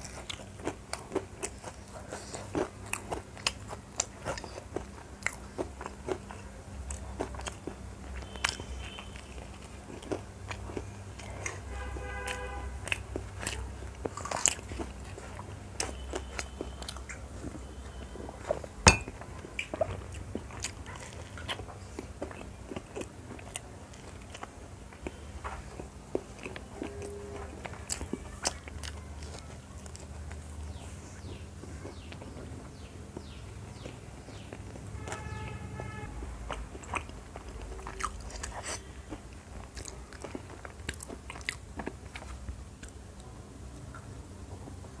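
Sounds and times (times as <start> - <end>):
person chewing food: 0.0 - 43.3.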